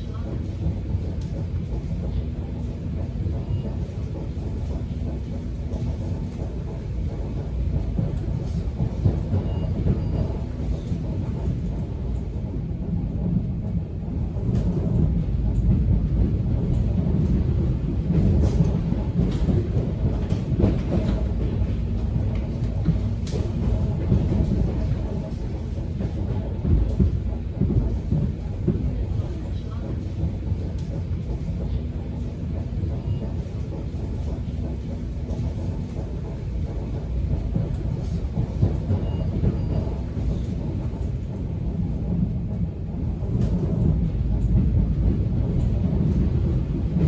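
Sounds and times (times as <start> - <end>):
subway train rumble: 0.0 - 47.0.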